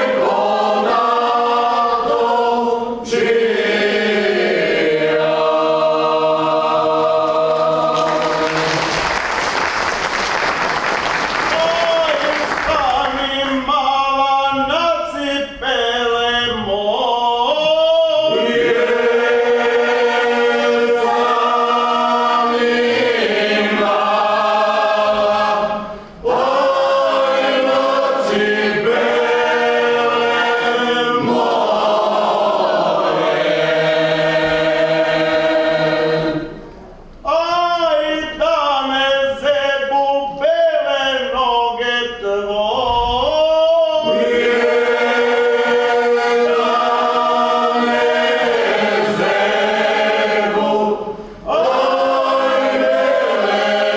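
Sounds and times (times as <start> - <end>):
vocal group singing unaccompanied: 0.0 - 9.6, 11.3 - 53.9.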